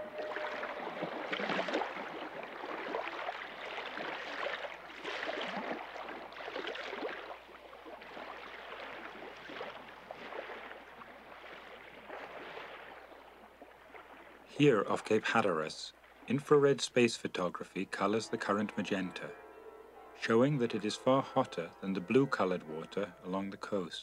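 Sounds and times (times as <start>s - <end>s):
water rushing along hulls: 0.0s - 24.0s.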